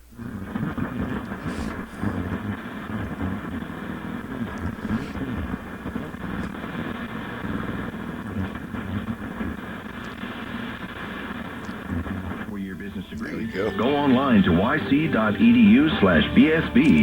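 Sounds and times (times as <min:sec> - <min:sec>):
muffled car radio: 0:00.0 - 0:17.0
steady hum: 0:00.0 - 0:17.0.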